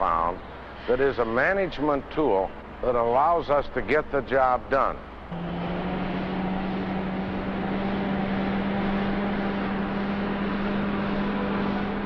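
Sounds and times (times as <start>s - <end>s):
diesel truck engine running: 1.4s - 12.0s.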